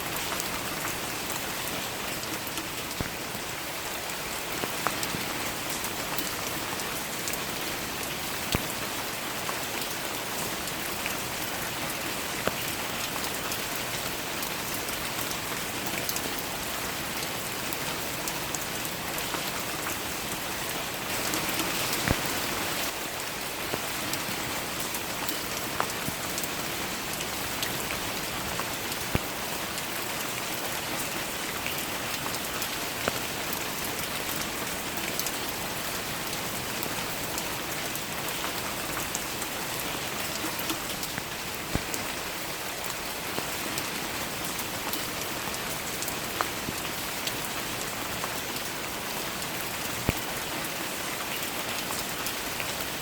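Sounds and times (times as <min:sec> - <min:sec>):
steady rain falling: 0:00.0 - 0:53.0
sharp raindrops landing: 0:00.1 - 0:48.7.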